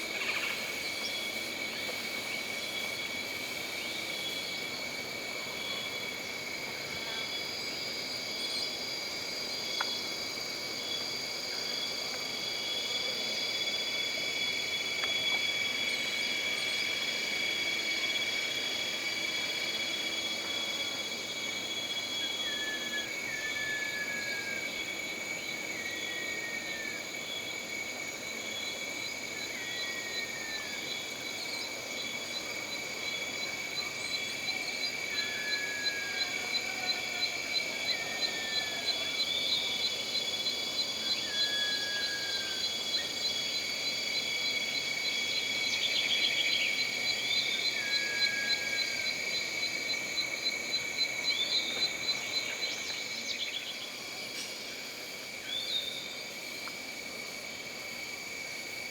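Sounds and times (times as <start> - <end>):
pulsing insect trill: 0.0 - 10.6, 13.8 - 56.6
insects droning: 0.0 - 58.9.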